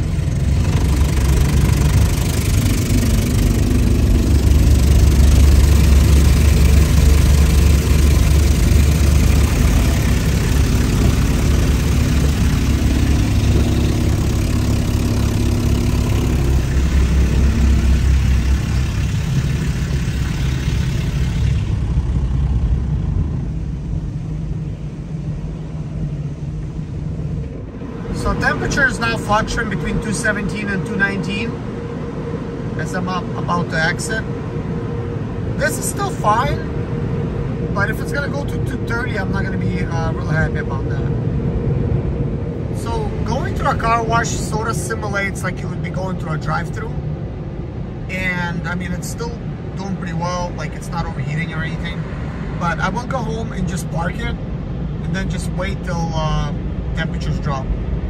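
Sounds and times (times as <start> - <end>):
car wash brushes rumbling: 0.0 - 58.0.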